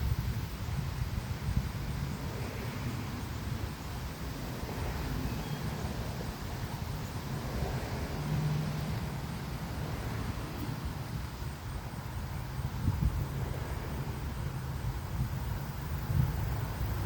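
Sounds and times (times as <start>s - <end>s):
outdoor background hiss: 0.0s - 17.0s
wind buffeting microphone: 0.0s - 17.0s.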